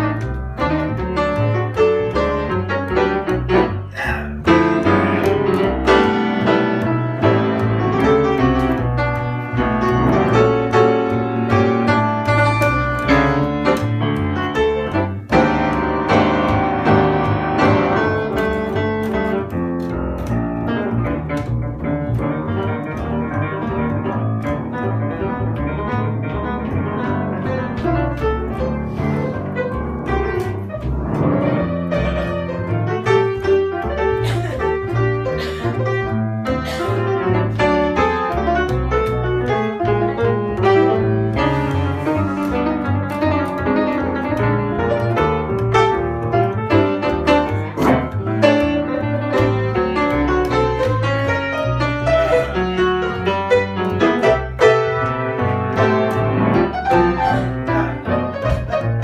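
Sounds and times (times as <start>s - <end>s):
jazz piano: 0.0s - 59.0s
walking double bass line: 0.0s - 59.0s.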